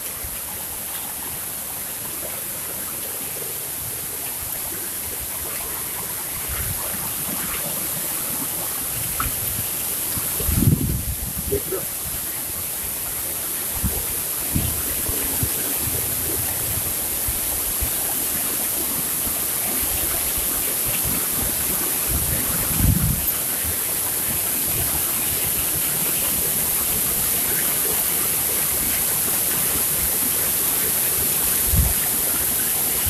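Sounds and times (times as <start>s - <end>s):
waterfall rushing into pool: 0.0s - 33.0s.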